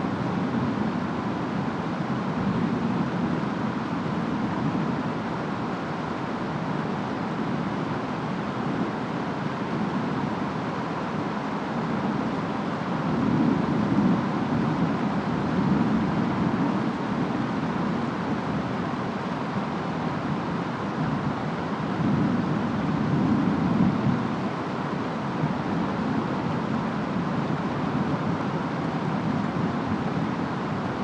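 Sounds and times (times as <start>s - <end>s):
rain: 0.0s - 31.0s.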